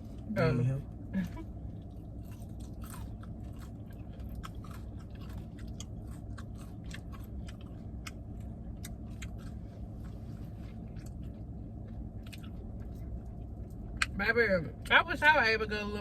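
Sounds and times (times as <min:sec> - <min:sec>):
steady low hum: 0:00.0 - 0:16.0
chewing and crunching: 0:01.2 - 0:15.0.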